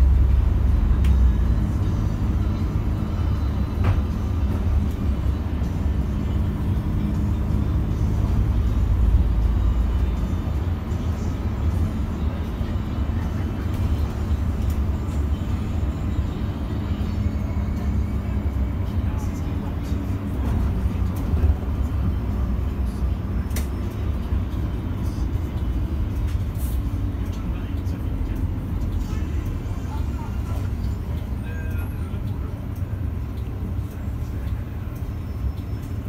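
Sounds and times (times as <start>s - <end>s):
bus engine and road noise: 0.0s - 36.0s.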